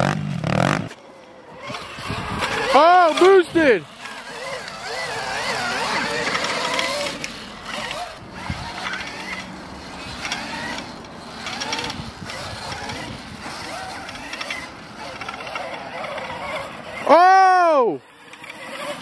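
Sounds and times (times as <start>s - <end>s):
electric motorbike motor whining: 0.0s - 19.0s.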